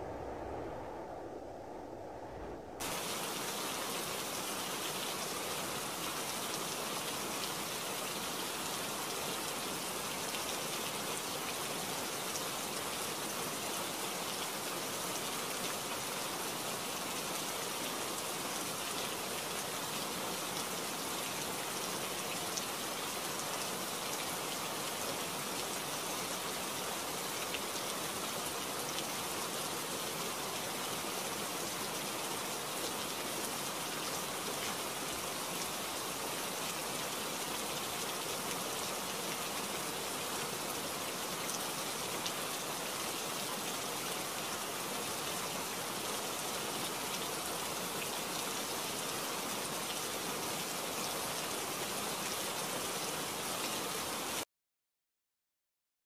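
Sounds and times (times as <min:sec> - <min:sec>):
rain falling steadily: 0:02.8 - 0:54.5.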